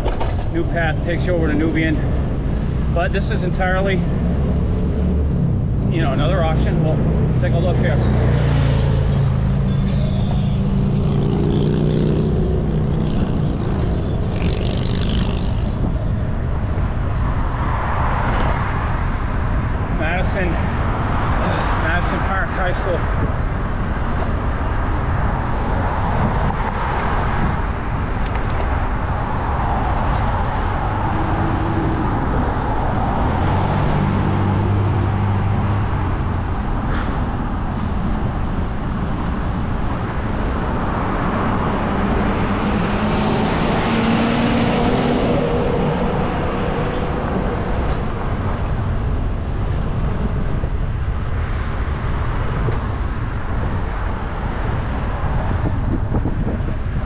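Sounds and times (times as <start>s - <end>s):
passing vehicle engines: 0.0s - 57.0s
steady road noise rush: 0.0s - 57.0s.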